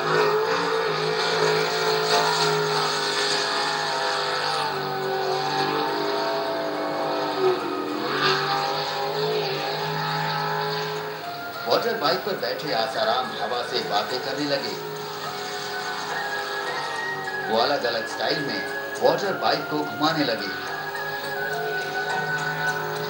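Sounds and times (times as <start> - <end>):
engine running and revving: 0.0 - 23.0.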